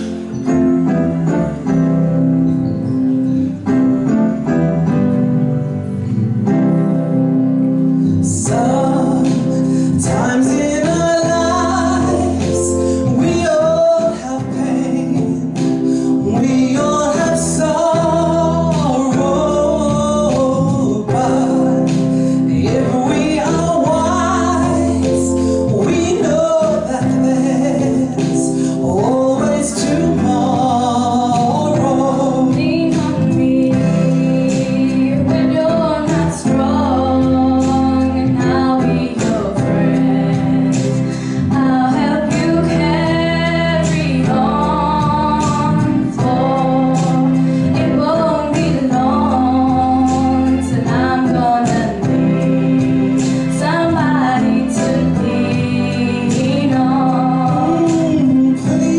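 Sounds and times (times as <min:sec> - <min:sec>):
instrumental accompaniment: 0:00.0 - 0:58.9
women singing into microphones: 0:08.3 - 0:58.9.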